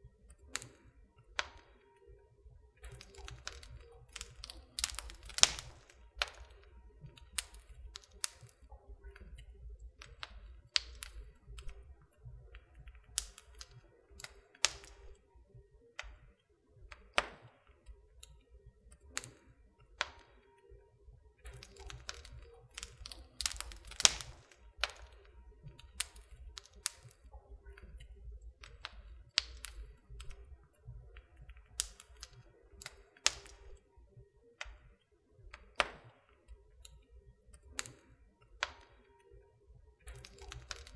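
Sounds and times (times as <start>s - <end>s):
wood fire crackling and popping: 0.3s - 2.1s, 2.7s - 15.3s, 15.9s - 33.9s, 34.5s - 40.9s.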